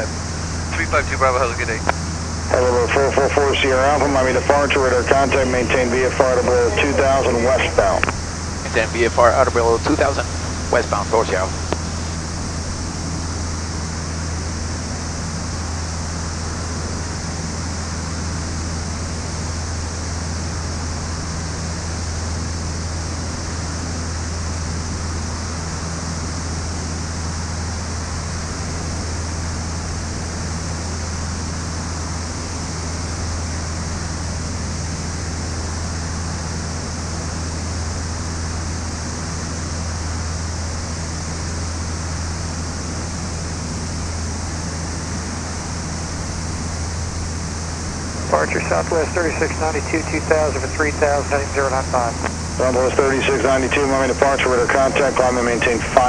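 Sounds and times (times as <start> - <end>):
airplane engines droning in cabin: 0.0 - 56.0.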